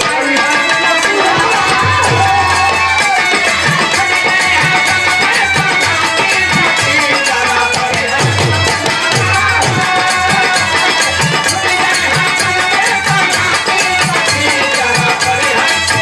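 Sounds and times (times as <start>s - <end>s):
dholak drum beating: 0.0s - 16.0s
harmonium chords: 0.0s - 16.0s.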